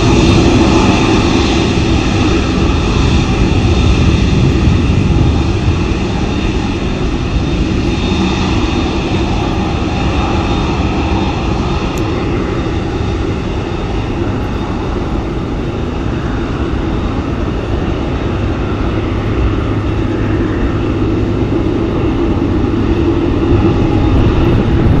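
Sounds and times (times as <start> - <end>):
jet engines rumbling with whine: 0.0 - 25.0.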